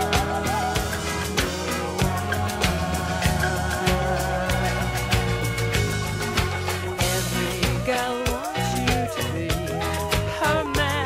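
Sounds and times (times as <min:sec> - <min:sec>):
drum kit beat: 0:00.0 - 0:11.0
electric guitar: 0:00.0 - 0:11.0.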